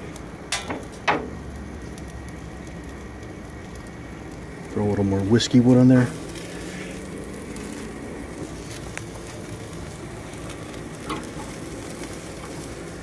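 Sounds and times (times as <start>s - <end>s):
steak sizzling over charcoal: 0.0s - 13.0s.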